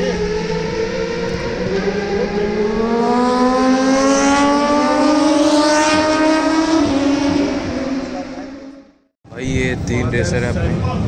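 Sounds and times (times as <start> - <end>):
racing engine accelerating: 0.0 - 10.0.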